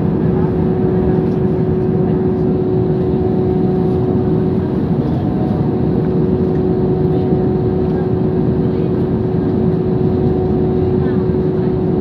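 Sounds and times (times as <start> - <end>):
jet engine hum inside cabin: 0.0 - 12.0.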